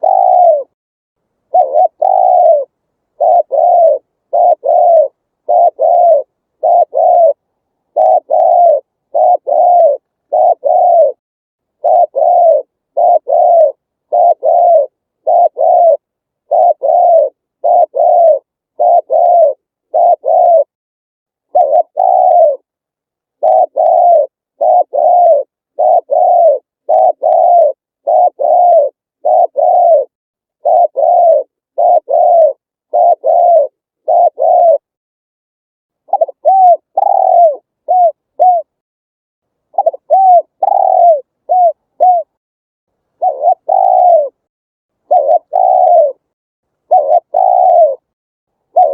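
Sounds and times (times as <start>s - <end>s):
dove cooing: 0.0s - 0.8s, 1.5s - 11.2s, 11.8s - 20.8s, 21.4s - 22.7s, 23.4s - 34.9s, 36.1s - 38.8s, 39.7s - 42.4s, 43.2s - 44.5s, 45.1s - 46.3s, 46.9s - 48.1s, 48.7s - 48.9s.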